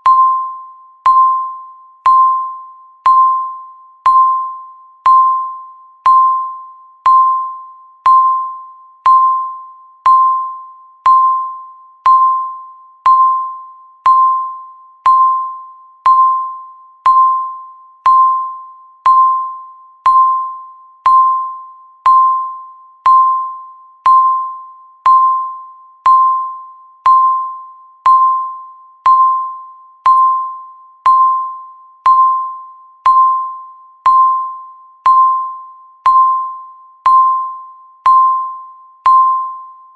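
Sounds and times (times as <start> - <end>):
timer beeps: 0.0 - 39.9.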